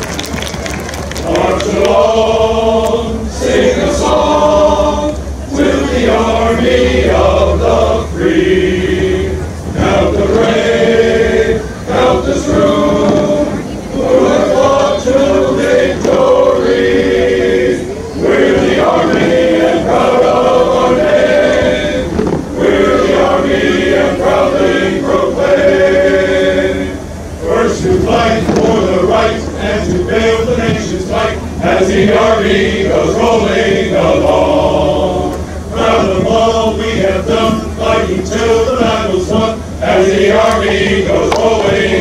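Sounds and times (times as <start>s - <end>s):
men's chorus singing in harmony: 1.2s - 42.0s.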